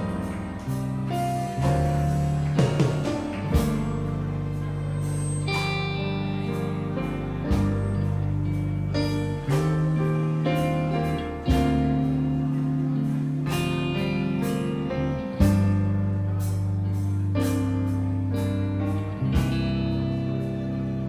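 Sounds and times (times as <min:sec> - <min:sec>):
electric guitar playing: 0:00.0 - 0:21.0
held low notes and chords: 0:00.0 - 0:21.0.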